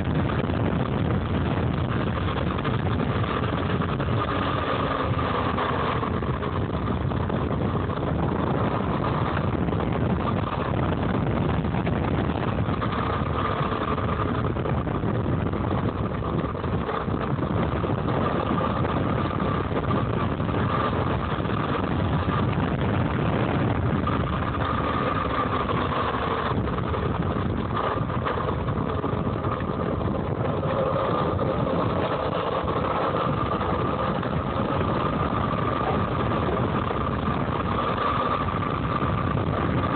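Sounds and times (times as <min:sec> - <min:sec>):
electric motor whine: 0:00.0 - 0:39.9
wind and rolling noise: 0:00.0 - 0:39.9.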